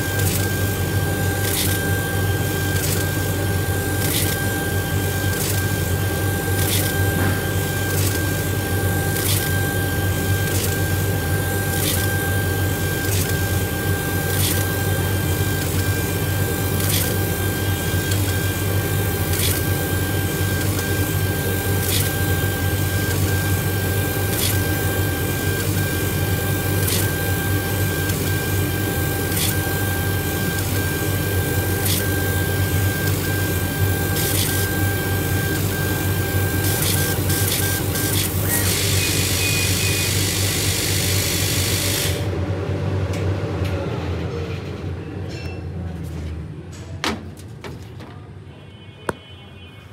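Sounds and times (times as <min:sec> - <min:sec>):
laser engraver motor whine: 0:00.0 - 0:42.3.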